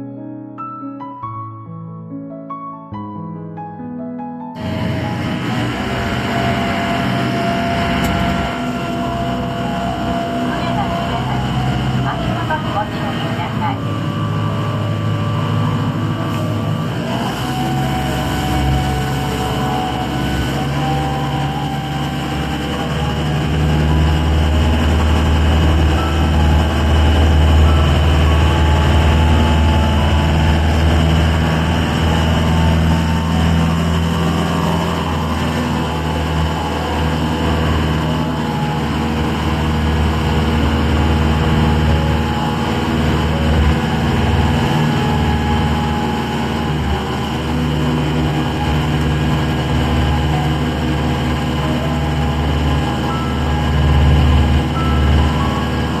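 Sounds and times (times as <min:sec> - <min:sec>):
boat engine humming: 0:04.6 - 0:56.0.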